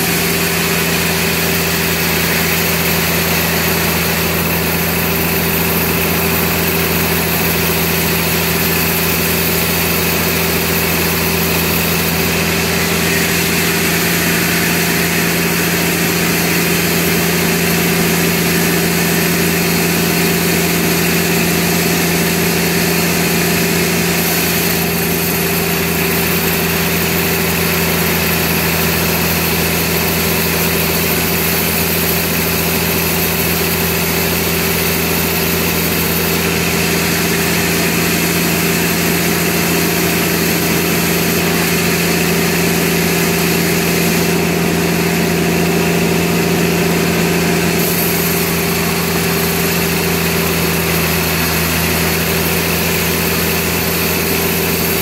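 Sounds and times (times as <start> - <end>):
band saw running: 0.0 - 55.0.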